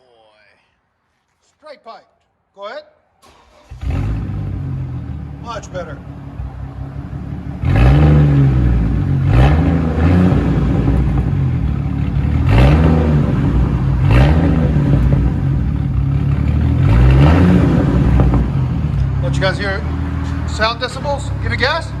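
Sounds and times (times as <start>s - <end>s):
car engine revving: 3.2s - 22.0s.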